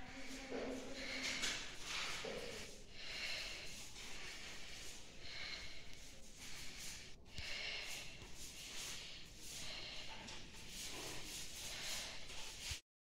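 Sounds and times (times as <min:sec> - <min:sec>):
person breathing: 0:00.0 - 0:12.8.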